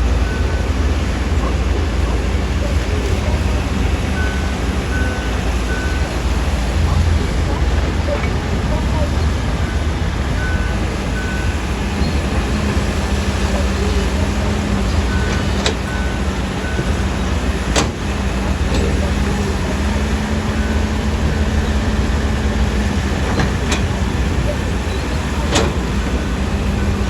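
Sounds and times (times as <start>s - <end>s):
diesel earthmoving machinery running: 0.0s - 27.0s.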